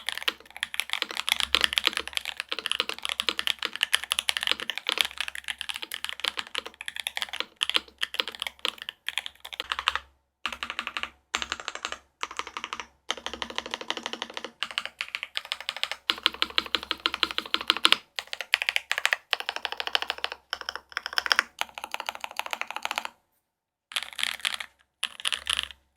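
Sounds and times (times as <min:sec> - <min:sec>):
fast mechanical keyboard typing: 0:00.0 - 0:23.1, 0:23.9 - 0:25.8.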